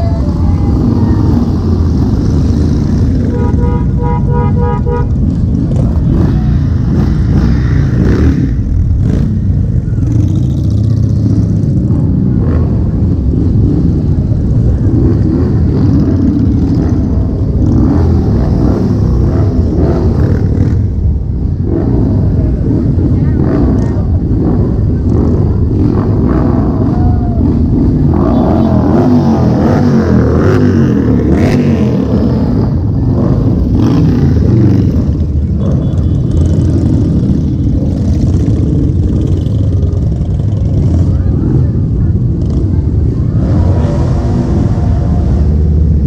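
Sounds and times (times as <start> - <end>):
motorcycles passing at low speed: 0.0 - 46.0.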